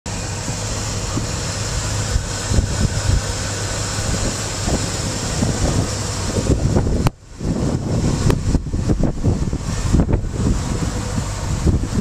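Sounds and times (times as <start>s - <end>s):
pickup engine idling: 0.1s - 12.0s.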